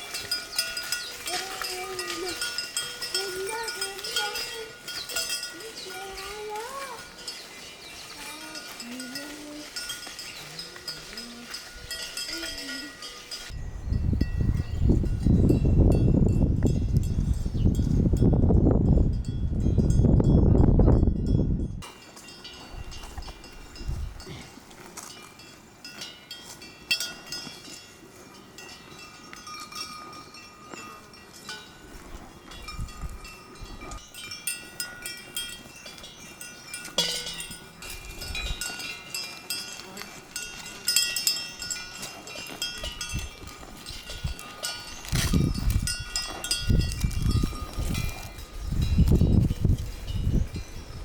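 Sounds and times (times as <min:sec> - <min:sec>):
livestock bells clinking: 0:00.0 - 0:51.0.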